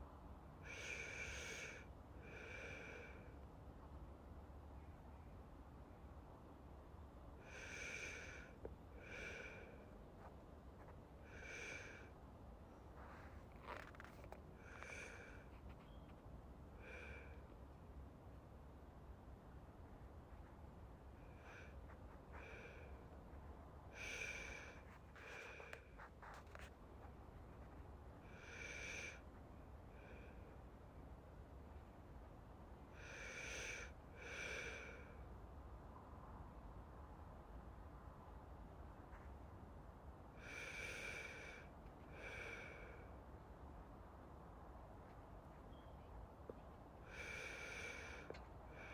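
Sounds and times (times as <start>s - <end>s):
soft slow breathing: 0.6s - 3.7s, 7.3s - 18.0s, 19.6s - 36.4s, 39.0s - 43.7s, 44.7s - 48.9s.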